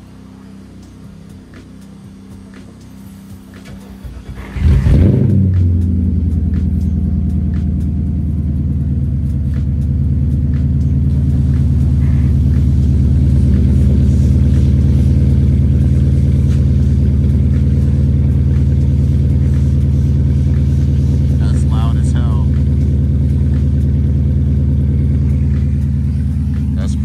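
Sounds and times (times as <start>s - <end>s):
engine idling deep rumble: 0.0s - 27.0s.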